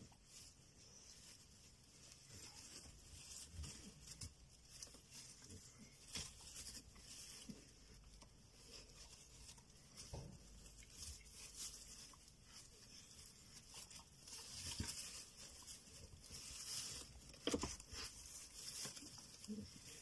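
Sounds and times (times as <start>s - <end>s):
dog rustling in straw: 0.0s - 20.0s.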